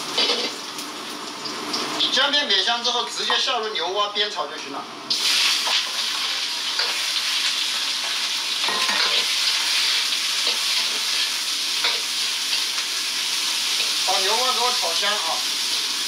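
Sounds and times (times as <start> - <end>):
meat sizzling in a wok: 0.0 - 2.1, 5.1 - 16.0.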